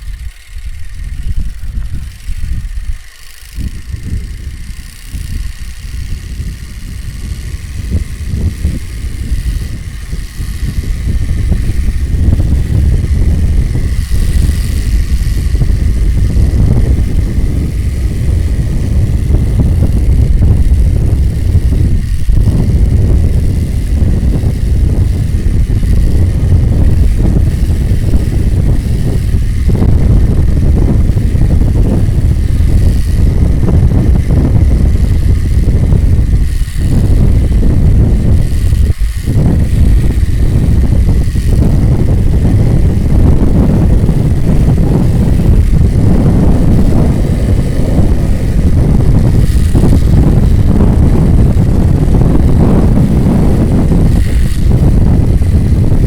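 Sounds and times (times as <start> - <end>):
cards flapping against bicycle spokes: 0.0 - 56.0.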